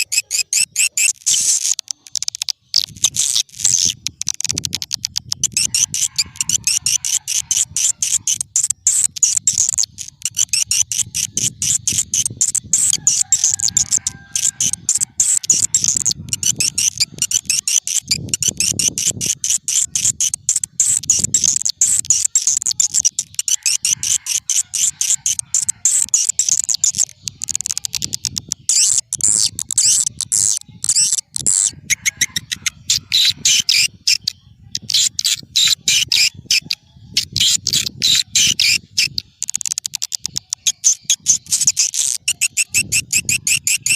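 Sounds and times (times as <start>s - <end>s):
swiftlets chittering chirps: 0.0s - 43.9s.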